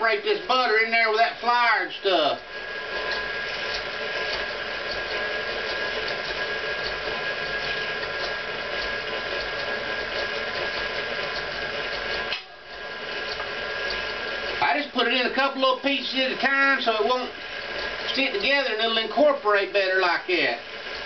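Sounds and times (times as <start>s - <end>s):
electric stand mixer running: 0.0s - 21.0s.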